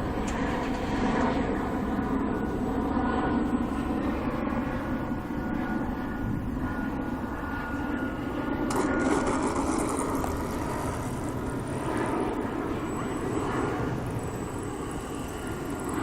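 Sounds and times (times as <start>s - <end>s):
helicopter rotor rumble: 0.0s - 16.0s.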